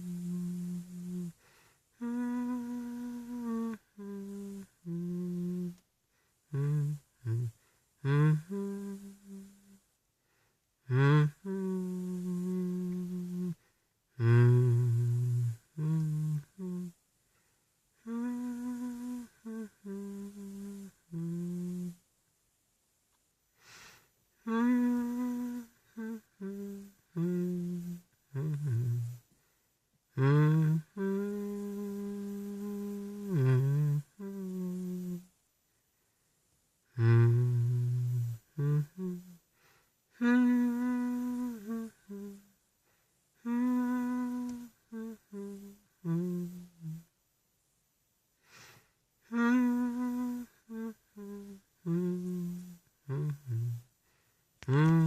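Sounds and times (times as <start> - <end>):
man humming a slow melody: 0.0 - 5.8, 6.4 - 9.9, 10.8 - 17.0, 18.0 - 22.1, 23.7 - 29.3, 30.1 - 35.4, 36.8 - 39.5, 40.1 - 42.6, 43.4 - 47.1, 48.5 - 54.0, 54.6 - 55.0.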